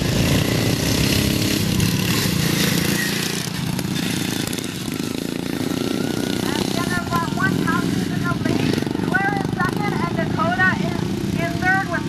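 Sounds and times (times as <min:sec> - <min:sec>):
racing lawn mower engines: 0:00.0 - 0:12.0.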